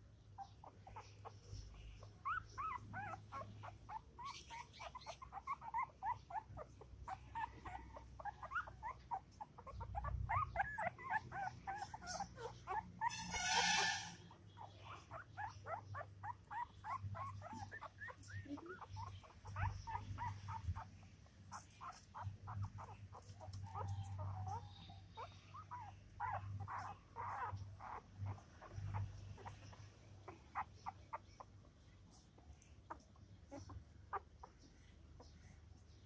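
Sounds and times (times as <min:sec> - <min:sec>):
puppy crying: 0:00.4 - 0:31.5, 0:32.8 - 0:35.3.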